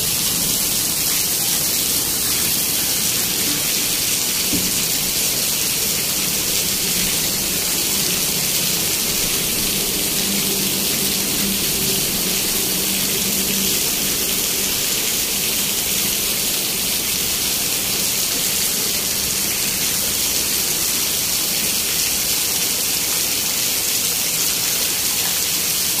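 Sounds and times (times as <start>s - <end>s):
heavy rain falling: 0.0s - 26.0s
runoff splashing onto pavement: 0.0s - 26.0s.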